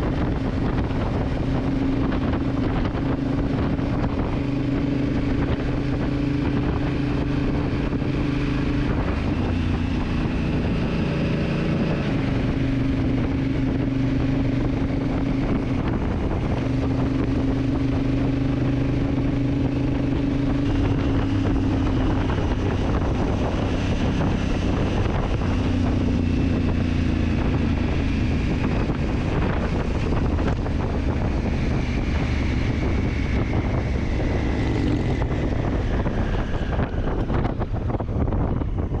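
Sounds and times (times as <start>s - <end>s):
motorcycle engine running: 0.0s - 39.0s
wind noise on microphone: 0.0s - 39.0s.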